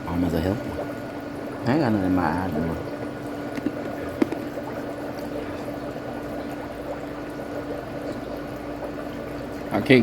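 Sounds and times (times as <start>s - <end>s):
fan blowing: 0.0s - 10.0s
foot spa bubbling water: 0.0s - 10.0s
steady low hum: 0.0s - 10.0s.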